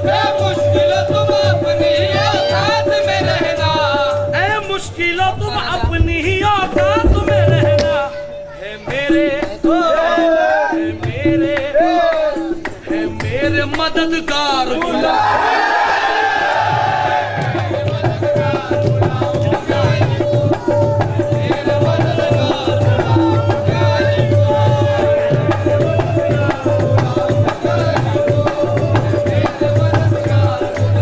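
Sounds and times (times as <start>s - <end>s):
hand drums fast rhythm: 0.0s - 15.2s, 16.4s - 31.0s.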